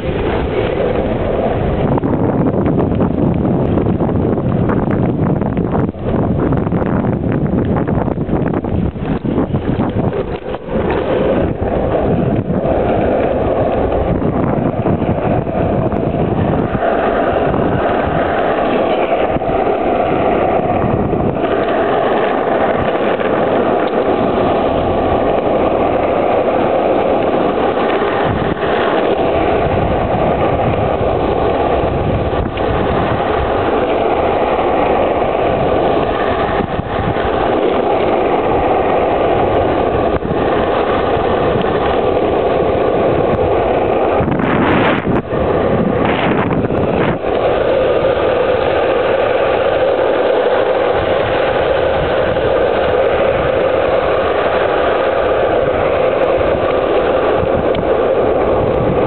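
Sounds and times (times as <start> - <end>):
longboard wheels rolling on asphalt: 0.0 - 59.0.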